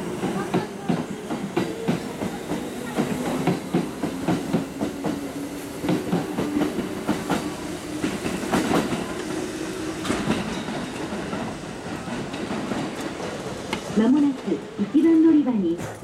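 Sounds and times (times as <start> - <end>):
train wheels clattering over joints: 0.1 - 14.6.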